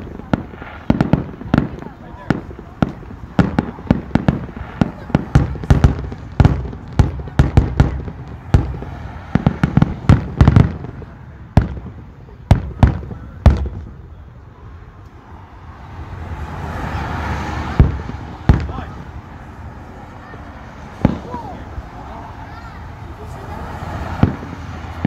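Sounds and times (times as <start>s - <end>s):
firework bangs and crackles: 0.0s - 25.0s.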